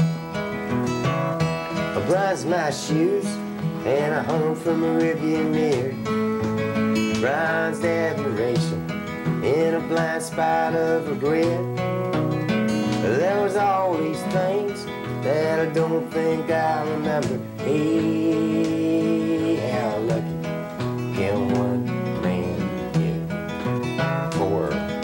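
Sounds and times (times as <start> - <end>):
acoustic guitar country tune: 0.0 - 25.0.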